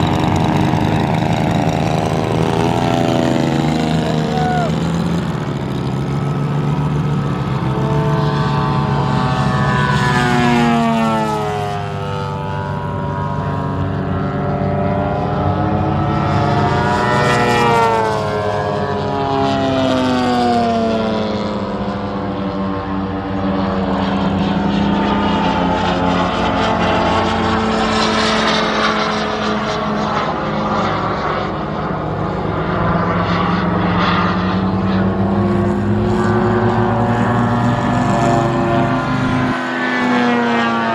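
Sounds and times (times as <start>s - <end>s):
model airplane engine flying past: 0.0s - 40.9s.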